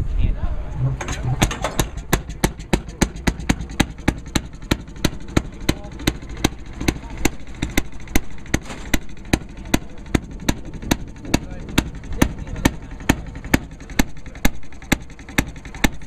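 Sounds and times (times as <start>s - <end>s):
murmur of voices: 0.0s - 16.0s
model train wheels clicking: 1.0s - 16.0s.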